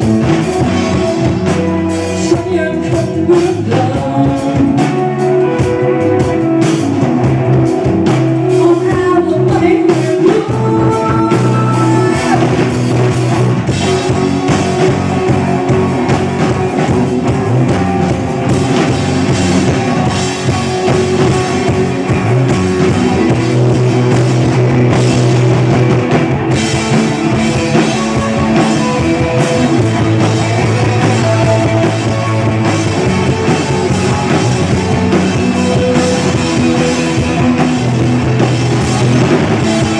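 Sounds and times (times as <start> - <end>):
rock music with singing: 0.0 - 39.9.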